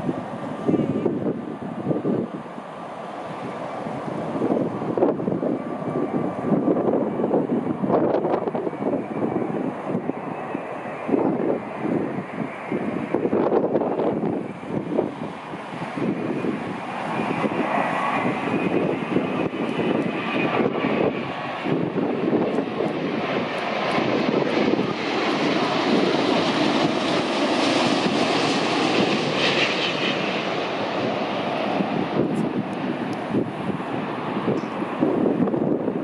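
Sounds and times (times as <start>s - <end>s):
jet airliner engine rush: 0.0s - 36.0s.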